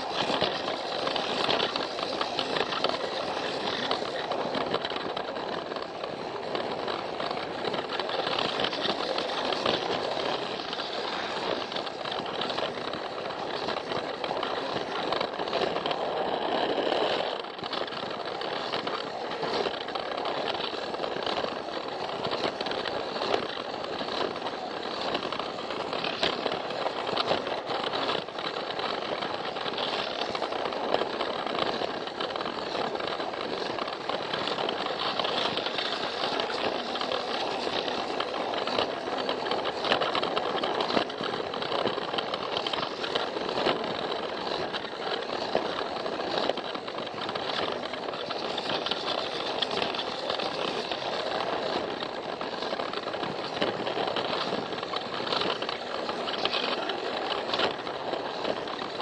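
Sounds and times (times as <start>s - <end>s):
toy train motor running: 0.0s - 59.0s
wheels clicking on plastic track: 0.0s - 59.0s.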